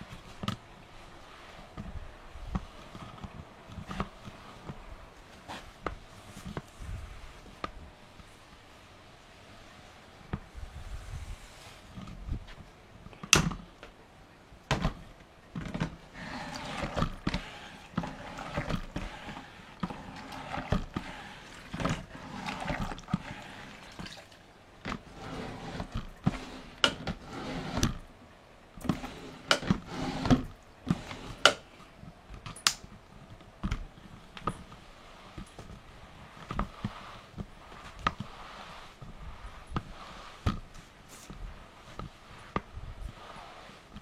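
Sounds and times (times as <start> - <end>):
mop swishing on floor: 0.0 - 12.8, 15.6 - 27.9, 33.4 - 44.0.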